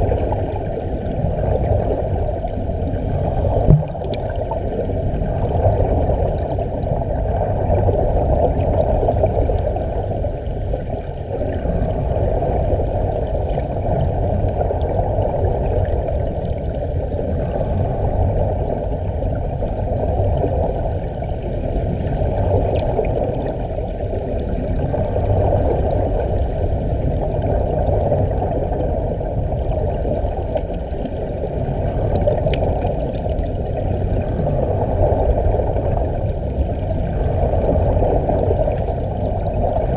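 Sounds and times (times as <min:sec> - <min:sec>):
underwater air bubbles gurgling: 0:00.0 - 0:39.9.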